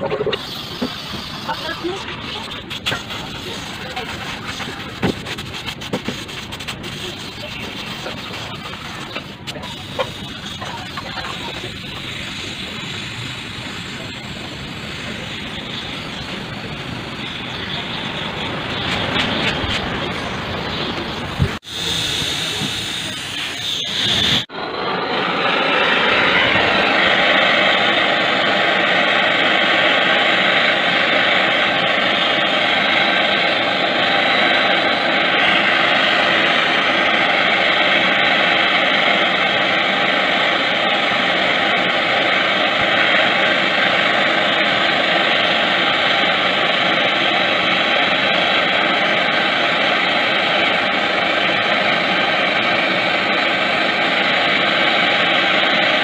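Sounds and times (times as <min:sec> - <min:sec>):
torch flame hissing: 0:00.3 - 0:56.0.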